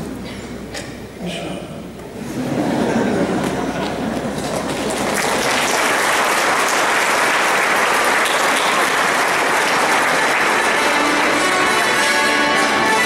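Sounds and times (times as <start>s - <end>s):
crowd applause: 2.4s - 13.0s.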